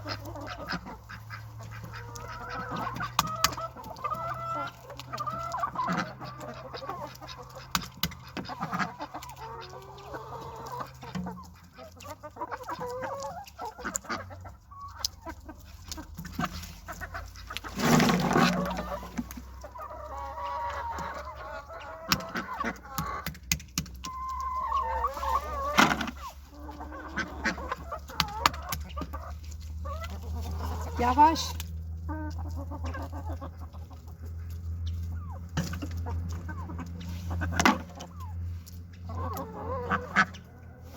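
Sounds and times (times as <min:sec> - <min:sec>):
chickens clucking and calling: 0:00.0 - 0:40.9.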